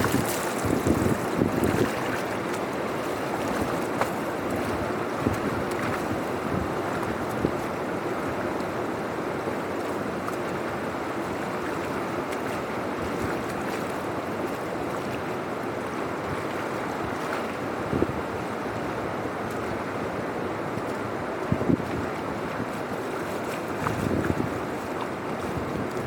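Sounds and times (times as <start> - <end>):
water rushing through channel: 0.0 - 26.0.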